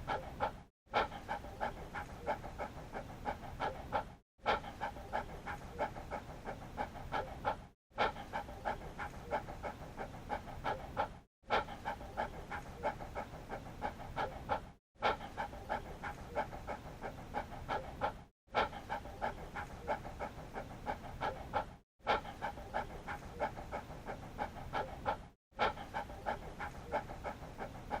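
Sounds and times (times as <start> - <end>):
dog panting: 0.0 - 28.0.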